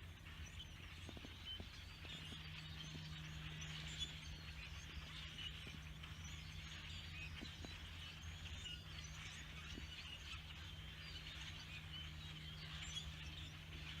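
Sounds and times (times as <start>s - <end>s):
flock of birds chattering: 0.0s - 14.0s
steady low hum: 0.0s - 14.0s.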